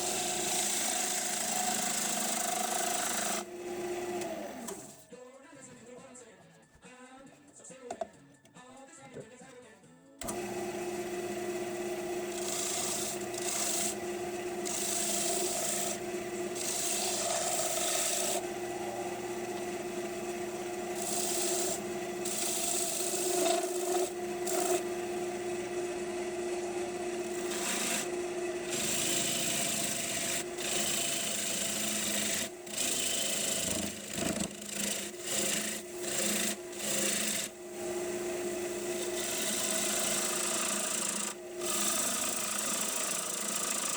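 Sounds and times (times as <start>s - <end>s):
turning tool scraping wood: 0.0s - 5.0s, 10.2s - 43.9s
wood lathe humming: 0.0s - 5.0s, 10.2s - 43.9s.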